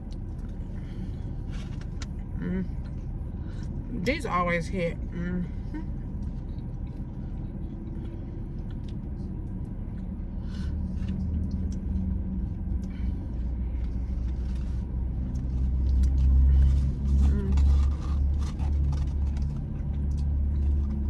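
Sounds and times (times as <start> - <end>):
person chewing food: 0.0 - 3.8, 5.9 - 21.0
car engine rumble from inside: 0.0 - 21.0.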